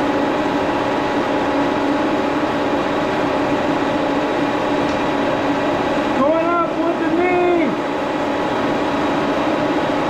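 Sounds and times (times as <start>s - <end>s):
milling machine humming: 0.0s - 10.0s.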